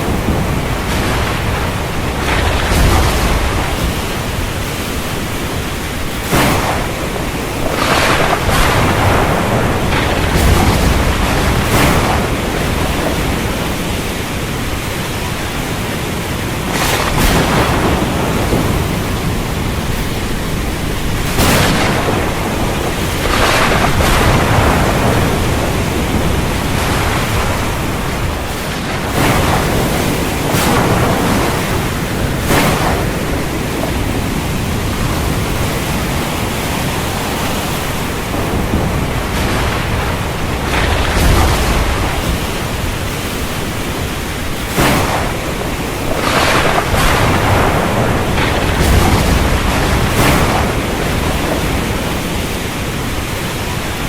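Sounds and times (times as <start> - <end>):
rushing wind: 0.0 - 54.0
surf: 0.0 - 54.0.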